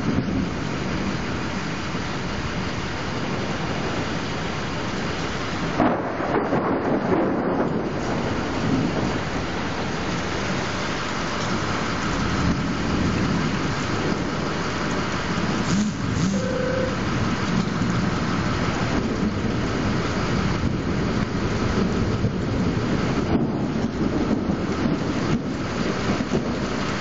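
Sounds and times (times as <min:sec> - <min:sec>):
low continuous thunder rumble: 0:00.0 - 0:27.0
rain falling: 0:00.0 - 0:27.0.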